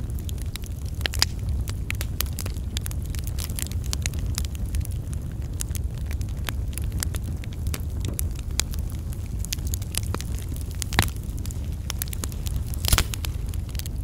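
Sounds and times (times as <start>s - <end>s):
campfire crackling: 0.0s - 14.0s
sharp pops and snaps of fire: 0.0s - 14.0s
steady low rumble: 0.0s - 14.0s.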